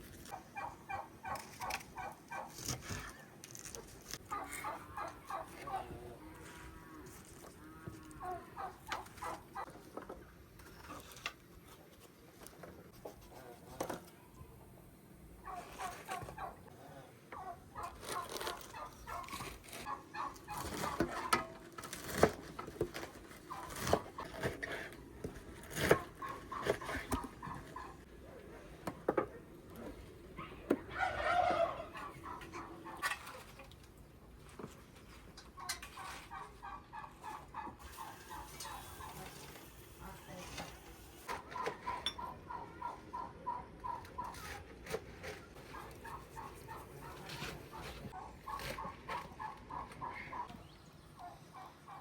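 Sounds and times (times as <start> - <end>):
chickens clucking: 0.3 - 3.4, 4.2 - 6.8, 7.4 - 10.4, 12.9 - 21.8, 23.0 - 34.3, 35.3 - 44.7, 45.4 - 52.0.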